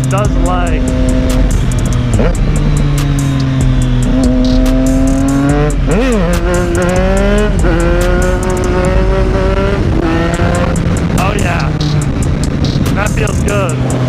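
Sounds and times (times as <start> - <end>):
motorcycle engine revving through gears: 0.0 - 14.0.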